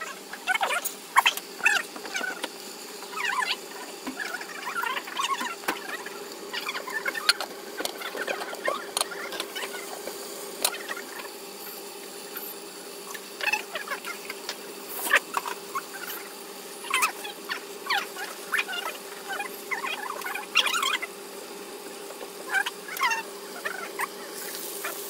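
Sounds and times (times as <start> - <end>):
high chirpy squeaks and crackles: 0.0 - 10.0, 13.1 - 14.3, 14.9 - 21.2, 22.4 - 25.0
steady hum: 0.0 - 25.0.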